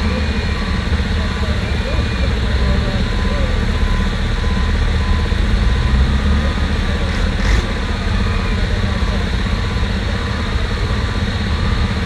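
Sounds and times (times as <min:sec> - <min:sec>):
diesel trucks rumbling by: 0:00.0 - 0:12.0.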